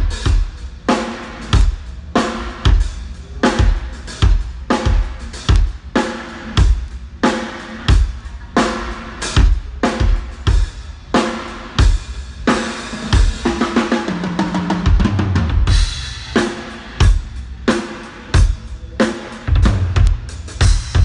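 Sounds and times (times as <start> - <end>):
acoustic drum kit beat: 0.0 - 21.0
drum fill on lower drums: 0.0 - 21.0.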